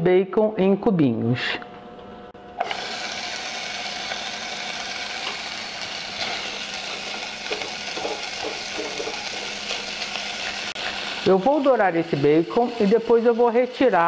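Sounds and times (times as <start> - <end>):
bacon sizzling in a saucepan: 2.6 - 14.0.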